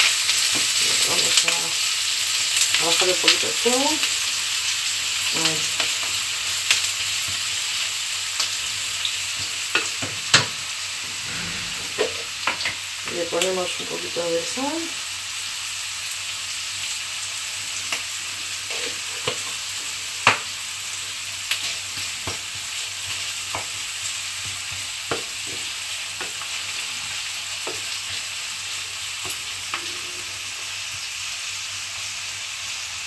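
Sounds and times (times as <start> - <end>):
onion sizzling in frying pan: 0.0 - 33.0.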